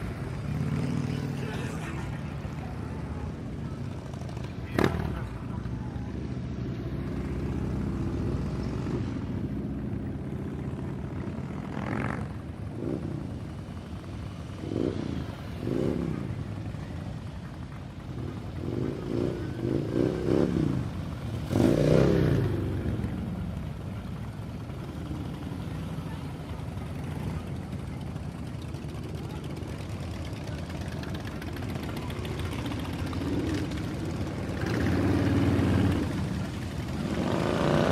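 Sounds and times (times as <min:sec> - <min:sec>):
motorcycle engines revving: 0:00.0 - 0:37.9.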